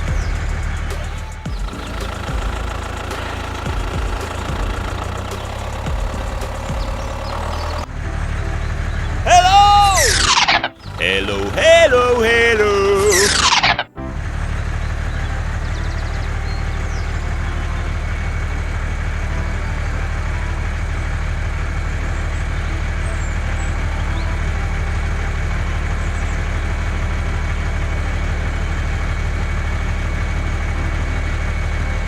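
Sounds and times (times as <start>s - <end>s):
small tractor engine running: 0.0s - 9.3s, 13.1s - 32.0s.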